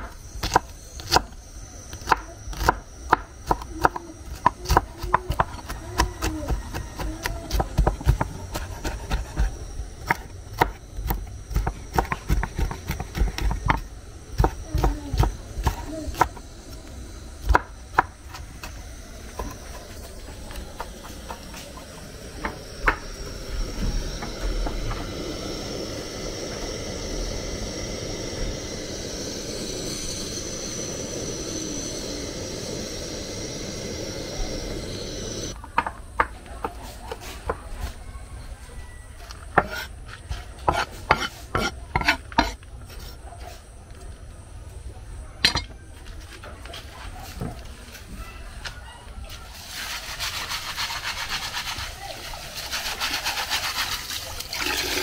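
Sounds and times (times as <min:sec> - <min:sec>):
pot boiling with bubbling hiss: 0:00.0 - 0:55.0.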